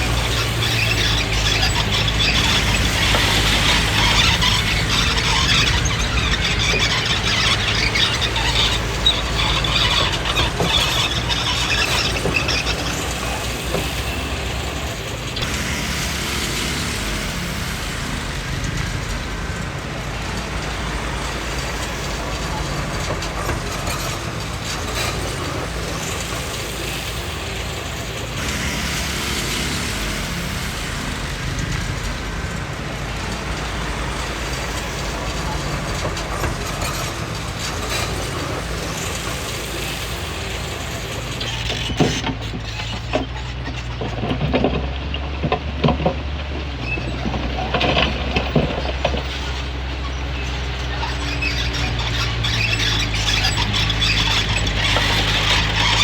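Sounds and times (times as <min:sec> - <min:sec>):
bulldozer diesel engine running: 0:00.0 - 0:56.0
steel tracks squealing and clattering: 0:00.0 - 0:56.0.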